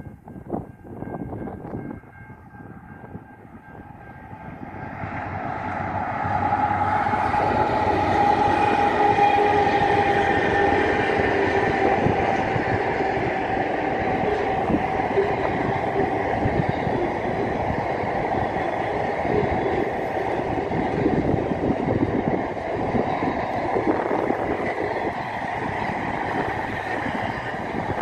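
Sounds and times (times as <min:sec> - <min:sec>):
diesel locomotive: 0:00.0 - 0:28.0.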